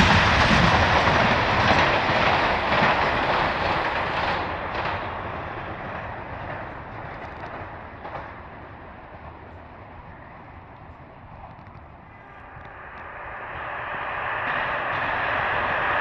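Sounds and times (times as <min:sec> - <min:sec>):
train wheel and rail noise: 0:00.0 - 0:16.0.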